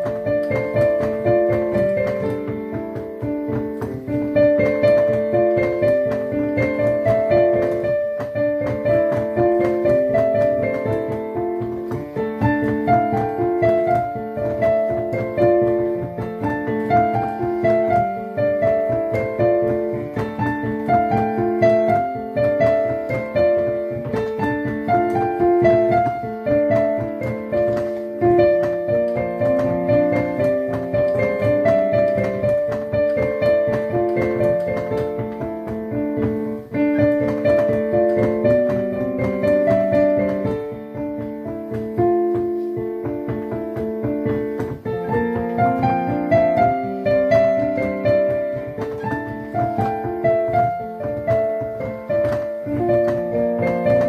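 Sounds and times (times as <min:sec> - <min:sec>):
piano melody with chords: 0:00.0 - 0:54.0.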